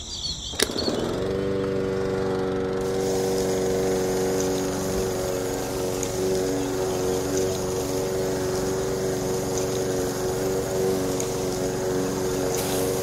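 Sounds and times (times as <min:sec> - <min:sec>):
small electric motor whining: 0:00.6 - 0:13.0.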